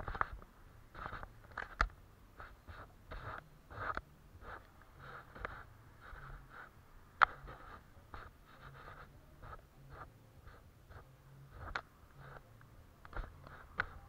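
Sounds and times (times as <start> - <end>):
paintbrush strokes on paper: 0.0 - 14.0.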